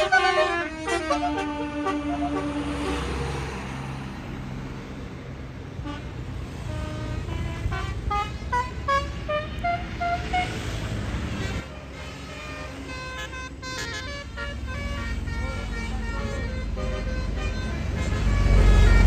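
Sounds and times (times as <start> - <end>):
multi-tone bus horn tune: 0.0 - 3.7, 5.6 - 19.0
bus engine running: 0.0 - 19.0.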